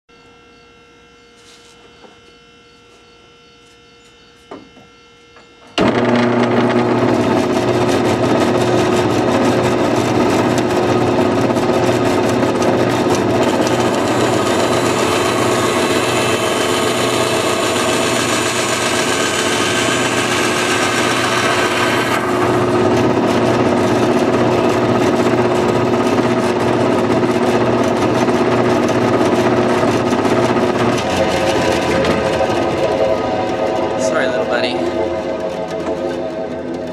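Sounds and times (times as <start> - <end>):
band saw running: 5.8 - 36.9.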